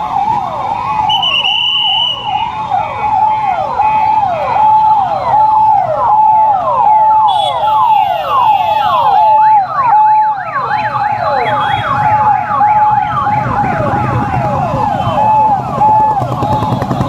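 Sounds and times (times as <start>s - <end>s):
low rumble of vehicles: 0.0s - 17.0s
police siren steady tone dropping: 0.0s - 17.0s
police sirens sweeping up and down: 0.0s - 17.0s.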